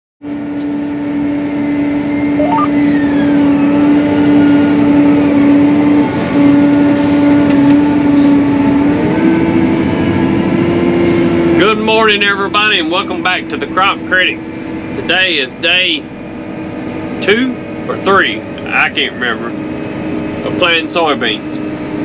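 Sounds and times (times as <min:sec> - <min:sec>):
tractor engine deep hum: 0:00.2 - 0:22.0.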